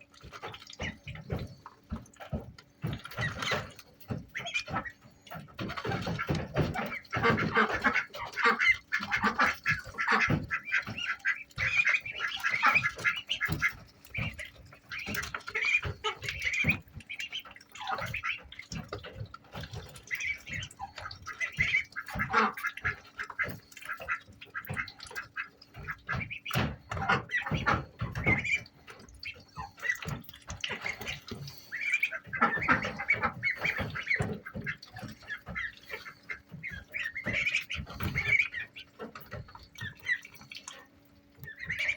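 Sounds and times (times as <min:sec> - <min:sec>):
ducklings peeping: 0:00.0 - 0:41.9
knocks and rustles: 0:00.1 - 0:39.9.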